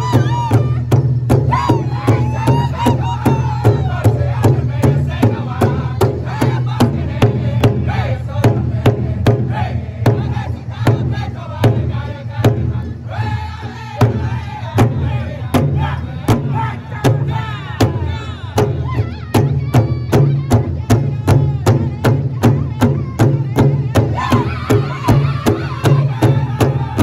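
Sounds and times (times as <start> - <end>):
large drum beating in unison: 0.0 - 27.0
singers singing high-pitched: 1.5 - 27.0.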